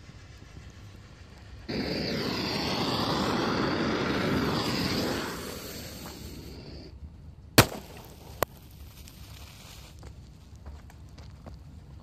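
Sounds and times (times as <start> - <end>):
fuse burning with crackling hiss: 0.0 - 12.0.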